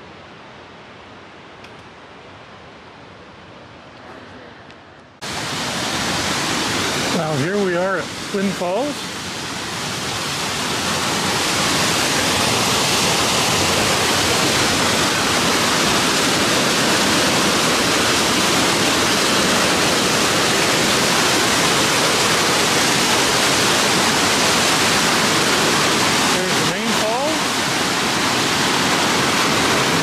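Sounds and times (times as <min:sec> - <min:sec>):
waterfall rushing over rock: 0:05.2 - 0:30.0.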